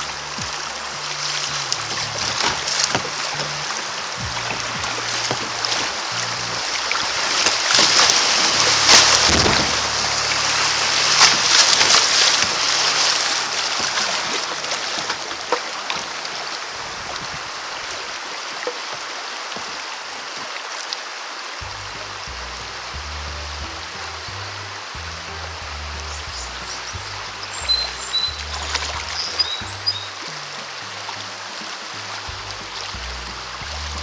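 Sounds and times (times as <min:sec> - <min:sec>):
rushing creek water: 0:00.0 - 0:34.0
water splashing around kayak: 0:00.0 - 0:34.0.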